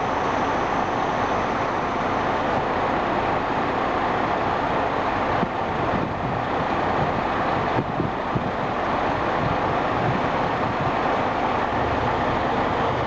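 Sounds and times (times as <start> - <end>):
diesel train engines idling: 0.0 - 13.0.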